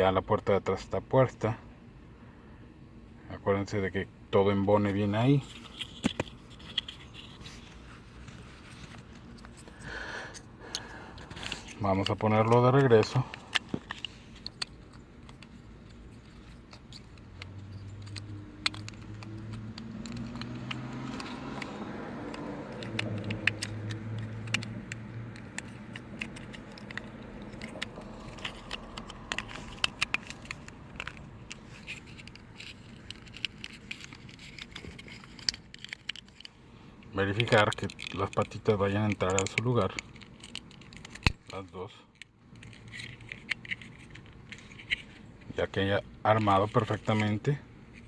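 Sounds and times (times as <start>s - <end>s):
plastic parts clicking and tapping: 4.9s - 48.0s.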